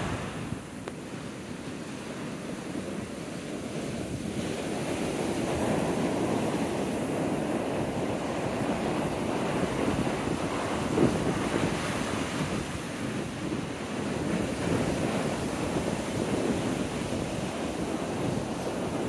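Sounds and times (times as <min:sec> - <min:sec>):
ocean waves breaking: 0:00.0 - 0:19.0
surf rushing up sand: 0:00.0 - 0:19.0.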